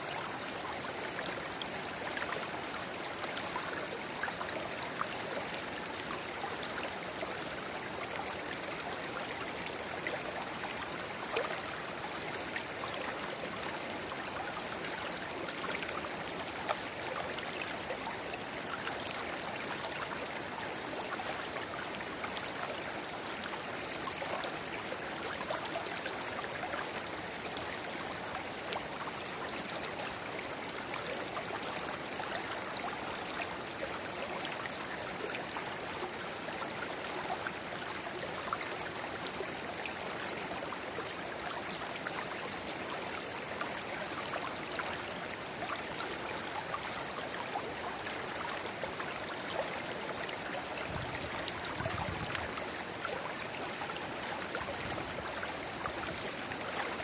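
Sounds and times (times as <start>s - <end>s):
shallow river babbling: 0.1s - 57.0s.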